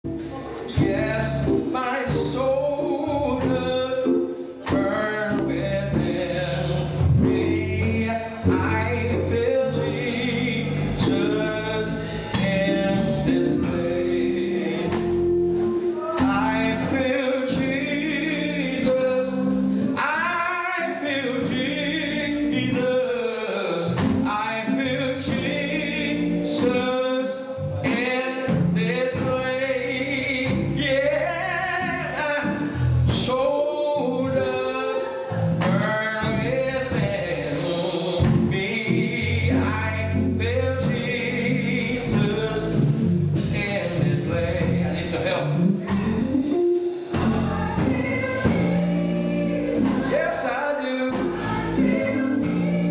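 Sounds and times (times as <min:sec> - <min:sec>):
gospel choir singing with band: 0:00.1 - 0:52.9.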